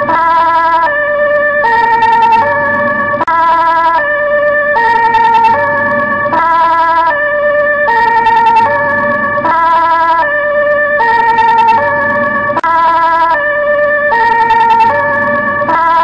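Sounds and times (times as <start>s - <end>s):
ambulance siren: 0.0s - 16.0s.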